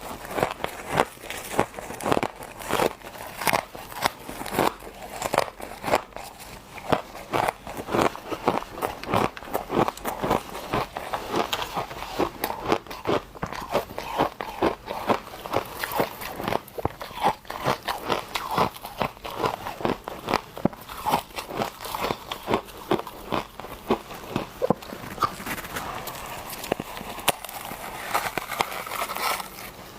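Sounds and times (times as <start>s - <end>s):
crunching frozen frost: 0.0s - 29.9s.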